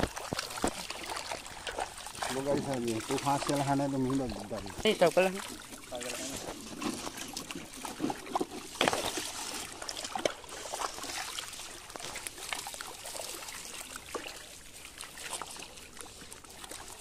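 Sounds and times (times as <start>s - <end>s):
fish splashing in a net: 0.0s - 17.0s
water trickling: 0.0s - 17.0s.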